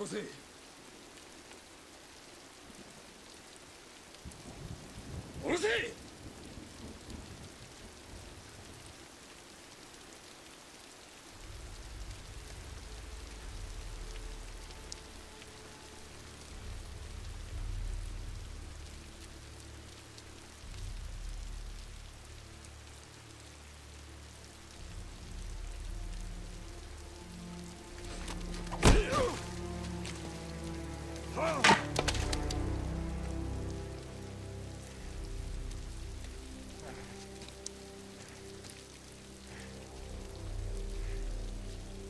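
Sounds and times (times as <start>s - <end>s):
heavy rain hissing: 0.0s - 42.0s.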